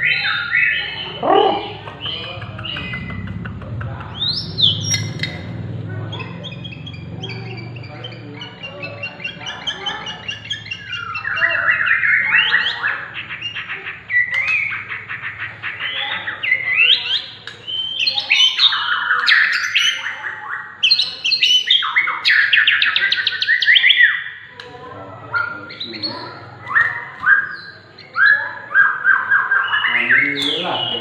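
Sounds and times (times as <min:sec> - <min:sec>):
bird song trills and whistles: 0:00.0 - 0:03.3, 0:04.1 - 0:31.0.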